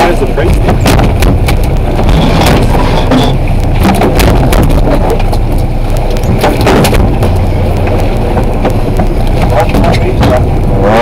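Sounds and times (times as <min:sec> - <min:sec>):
boat engine rumble: 0:00.0 - 0:11.0
wind buffeting microphone: 0:00.0 - 0:11.0
sharp clicks and knocks: 0:00.4 - 0:10.5.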